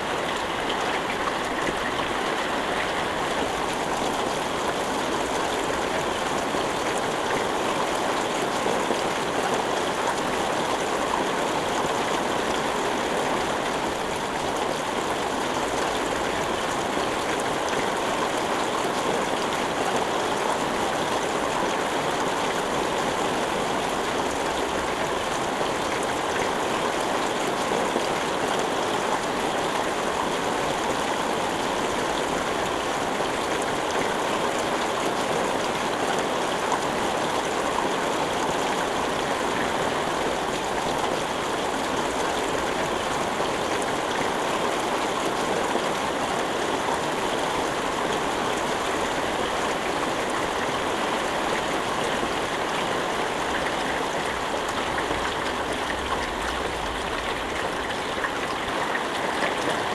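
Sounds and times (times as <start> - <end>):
heavy rain splashing on surfaces: 0.0 - 59.9.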